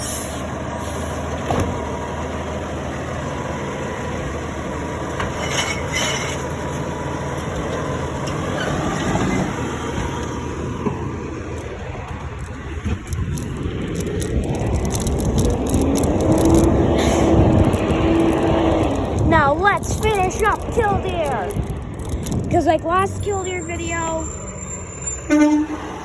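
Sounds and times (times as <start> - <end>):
diesel engine humming: 0.0 - 26.0.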